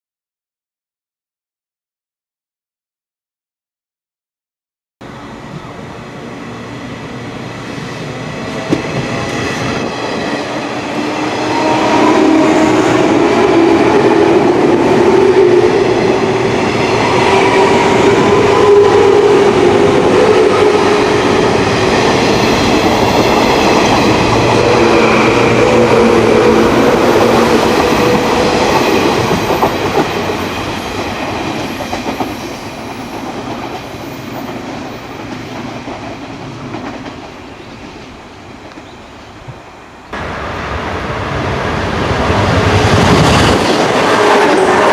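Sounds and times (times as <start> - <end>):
train passing: 5.0 - 44.9.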